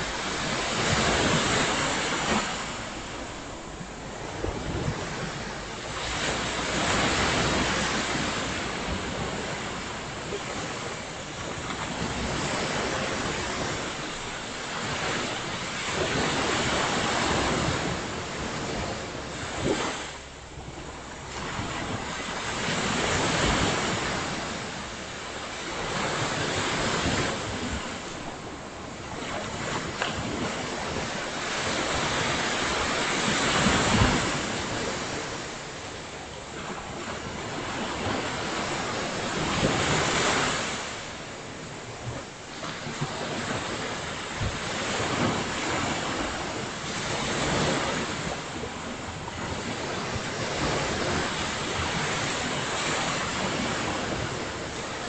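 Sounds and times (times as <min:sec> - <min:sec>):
ocean surf breaking on beach: 0:00.0 - 0:55.0
wind gusting on microphone: 0:00.0 - 0:55.0.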